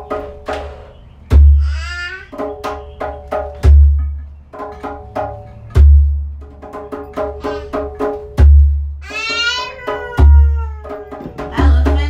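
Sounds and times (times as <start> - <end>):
djembe drumming: 0.0 - 12.0.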